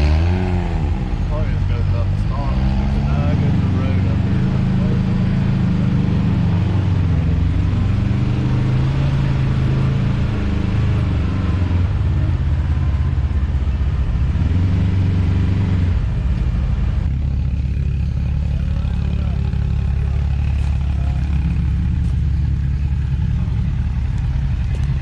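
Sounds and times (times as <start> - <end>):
utility vehicle engine revving: 0.0 - 25.0.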